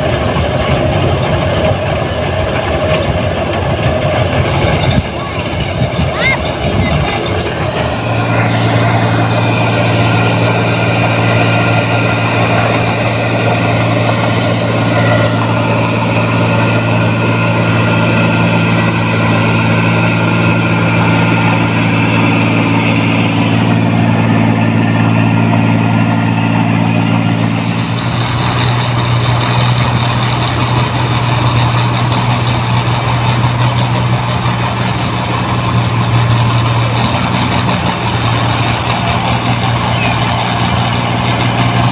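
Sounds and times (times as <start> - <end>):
combine harvester diesel engine: 0.0 - 41.9.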